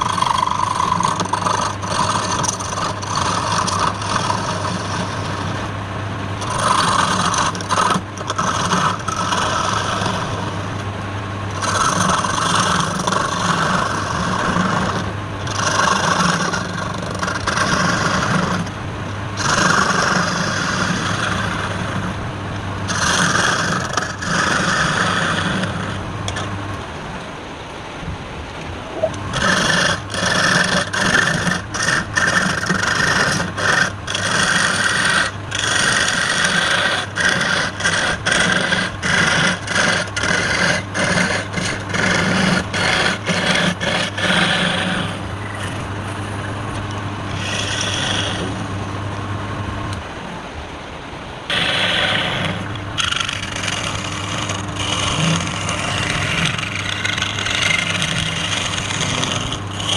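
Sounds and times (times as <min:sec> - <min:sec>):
tool rasping on turning wood: 0:00.0 - 0:05.8, 0:06.4 - 0:10.8, 0:11.5 - 0:18.8, 0:19.4 - 0:22.2, 0:22.8 - 0:26.5, 0:29.2 - 0:48.9, 0:51.5 - 0:59.9
steady motor hum: 0:00.0 - 0:59.9.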